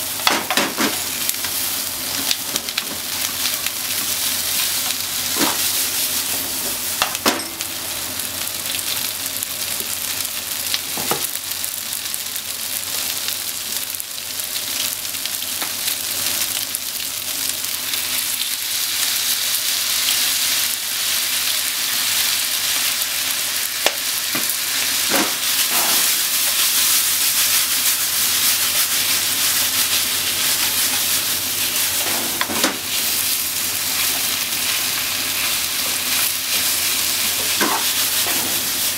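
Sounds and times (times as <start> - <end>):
meat sizzling in a frying pan: 0.0 - 38.9.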